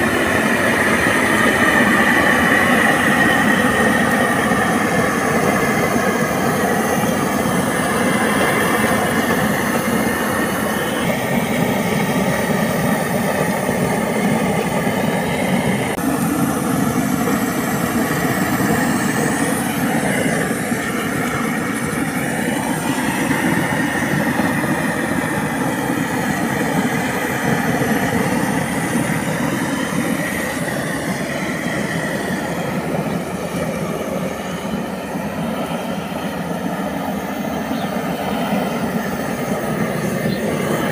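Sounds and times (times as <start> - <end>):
gas torch burning: 0.0 - 40.9.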